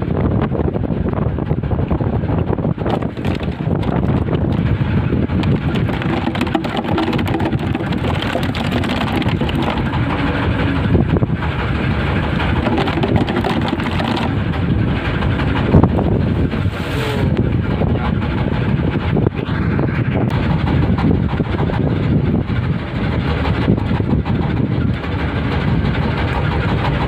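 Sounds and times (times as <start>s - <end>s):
boat engine rumbling: 0.0s - 27.0s
wind buffeting microphone: 0.0s - 27.0s.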